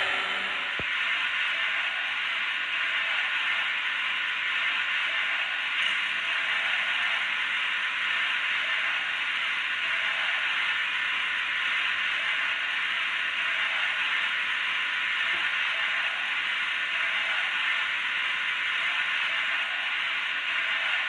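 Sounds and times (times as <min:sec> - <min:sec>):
model locomotive sound hiss: 0:00.0 - 0:21.0.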